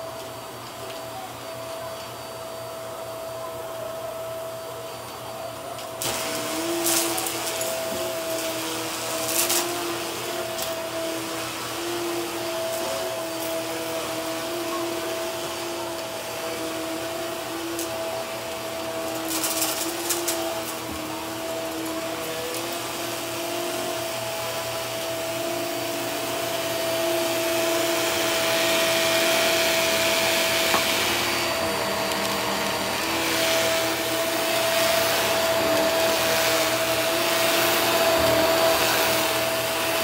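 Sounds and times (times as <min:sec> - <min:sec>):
vacuum cleaner on carpet: 0:00.0 - 0:40.0.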